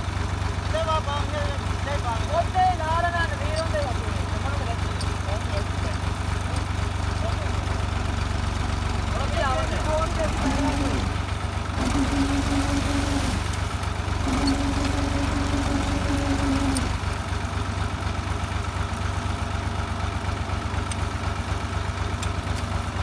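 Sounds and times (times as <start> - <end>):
tractor diesel engine idling: 0.0 - 23.0.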